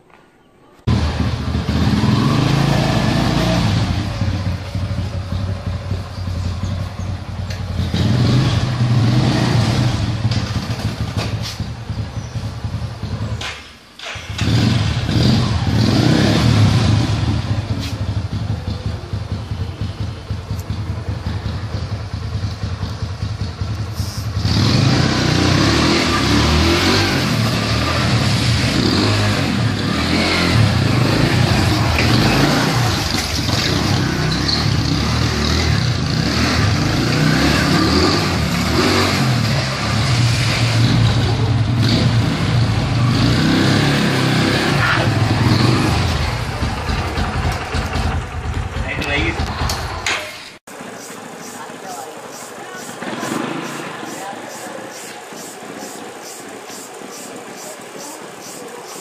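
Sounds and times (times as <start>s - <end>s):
quad bike engine: 0.9s - 59.0s.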